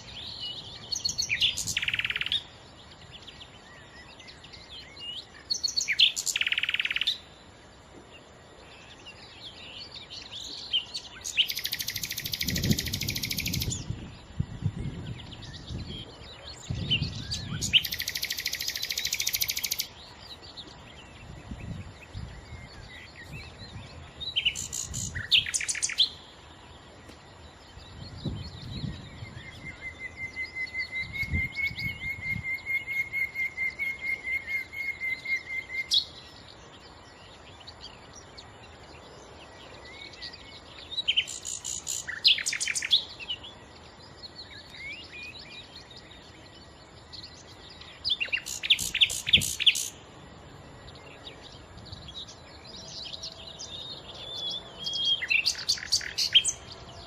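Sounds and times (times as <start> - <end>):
nightingale singing: 0.0 - 57.0.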